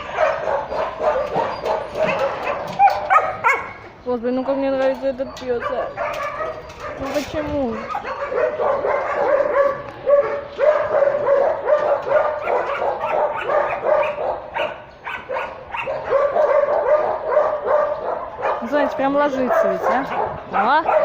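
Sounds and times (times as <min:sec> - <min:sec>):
dogs barking: 0:00.0 - 0:21.0
dogs yipping: 0:00.0 - 0:21.0.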